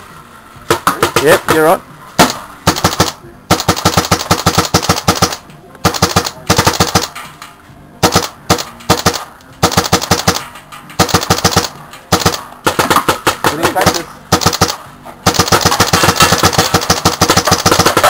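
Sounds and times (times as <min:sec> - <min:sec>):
paintball marker rapid fire: 0:02.2 - 0:07.2, 0:08.0 - 0:18.0.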